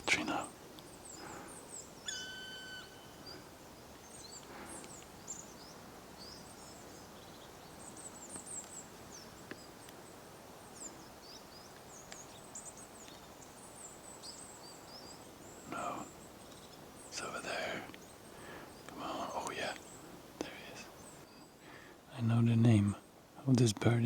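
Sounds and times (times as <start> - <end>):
background hiss: 0.0 - 24.0
songbirds chirping: 0.0 - 24.0.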